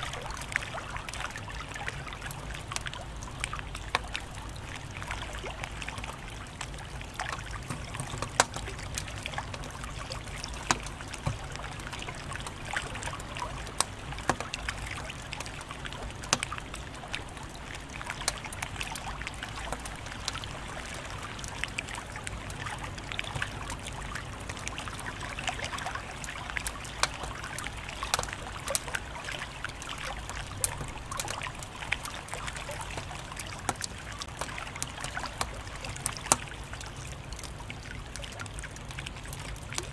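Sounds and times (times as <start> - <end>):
wood fire crackling: 0.0 - 25.4, 26.1 - 39.9.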